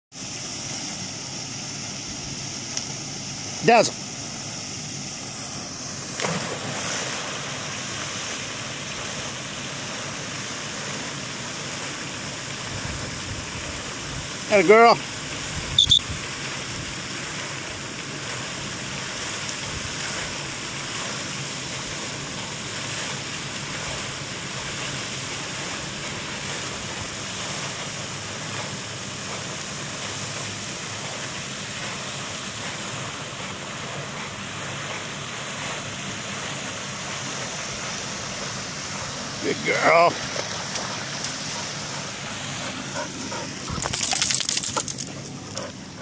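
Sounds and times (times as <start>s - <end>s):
fountain jet splashing onto water: 5.4s - 46.0s.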